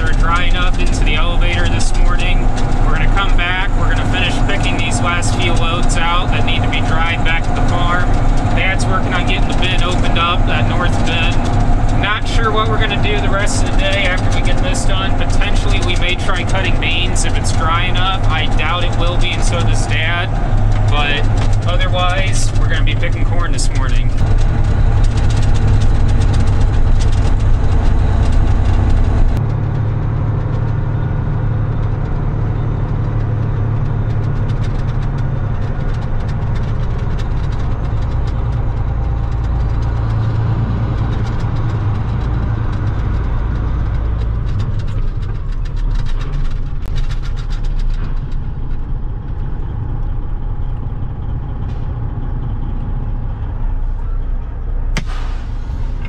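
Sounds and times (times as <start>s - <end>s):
light rattles and clicks: 0.0s - 54.7s
diesel truck engine droning: 0.0s - 56.0s.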